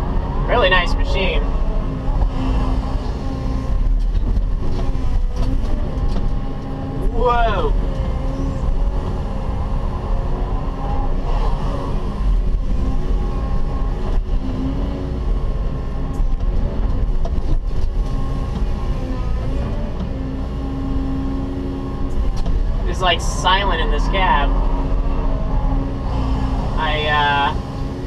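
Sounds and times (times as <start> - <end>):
excavator engine rumbling: 0.0 - 28.0.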